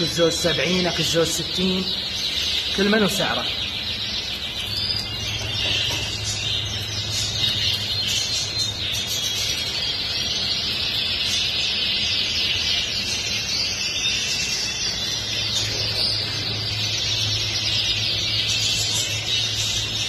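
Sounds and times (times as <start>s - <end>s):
canaries singing and chirping: 0.0s - 20.0s
steady low hum: 0.0s - 20.0s.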